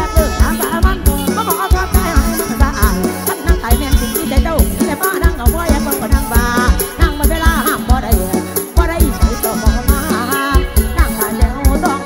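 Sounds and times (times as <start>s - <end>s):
kick-drum beat: 0.0s - 11.8s
sliding melody line: 0.0s - 12.0s.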